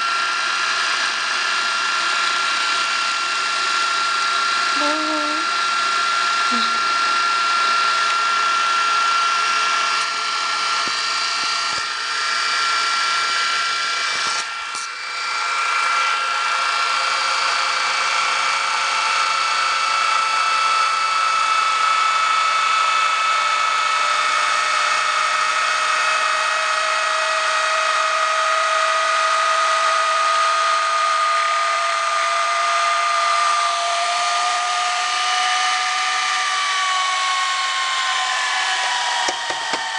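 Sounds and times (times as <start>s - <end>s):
tape reels spinning whine: 0.0s - 39.9s.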